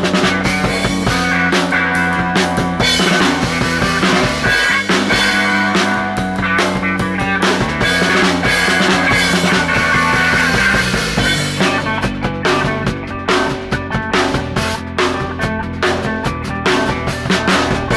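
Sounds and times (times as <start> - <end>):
bass guitar: 0.0 - 17.9
drum kit with cymbals: 0.0 - 17.9
guitar: 0.0 - 17.9.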